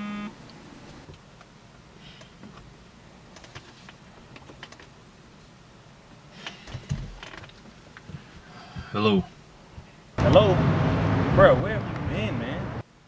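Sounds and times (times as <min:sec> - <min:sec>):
low background hiss: 0:00.0 - 0:13.0.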